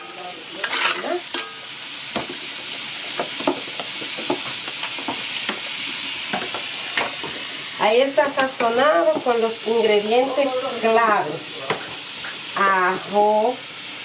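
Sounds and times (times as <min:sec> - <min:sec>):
chicken sizzling in a pot: 0:00.0 - 0:14.0.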